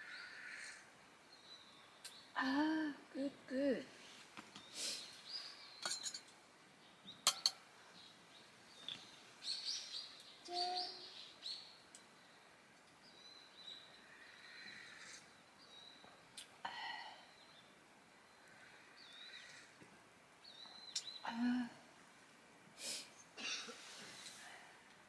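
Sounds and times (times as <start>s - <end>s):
small birds chirping: 0.0s - 24.6s.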